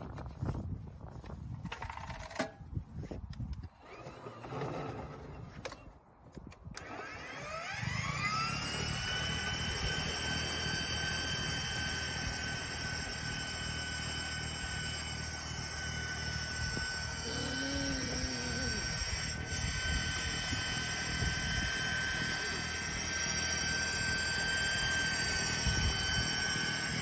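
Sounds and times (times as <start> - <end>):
snow blower motor whine: 3.7 - 5.5, 6.7 - 27.0.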